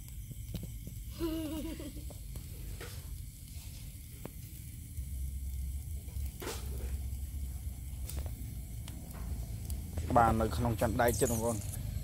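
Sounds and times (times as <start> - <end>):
seafood sizzling on a grill: 0.0 - 12.0.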